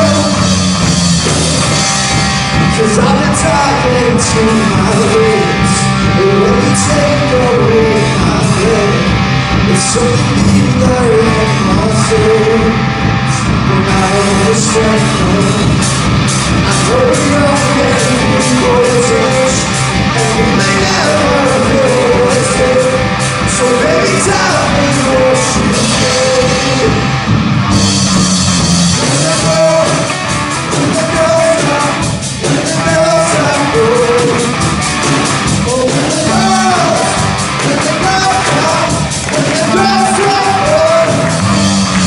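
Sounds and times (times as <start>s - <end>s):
man singing: 0.0s - 1.8s, 2.6s - 27.3s, 28.9s - 42.0s
drum kit: 0.0s - 42.0s
electric guitar: 0.0s - 42.0s.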